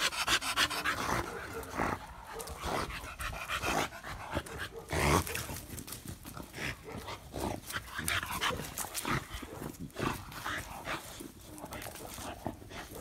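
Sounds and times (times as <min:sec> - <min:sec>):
dogs playing and growling: 0:00.0 - 0:13.0.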